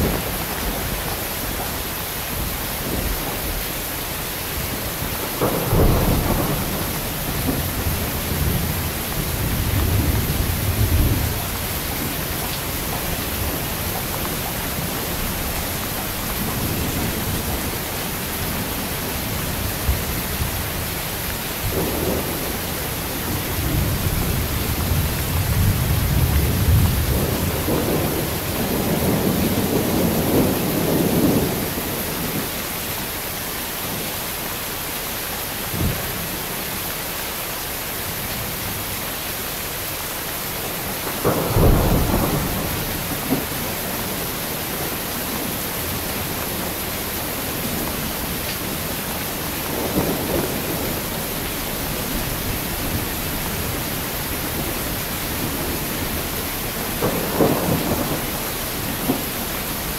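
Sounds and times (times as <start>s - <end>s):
thunder rumbling: 0.0s - 32.6s, 40.6s - 59.9s
heavy rain falling: 0.0s - 59.9s.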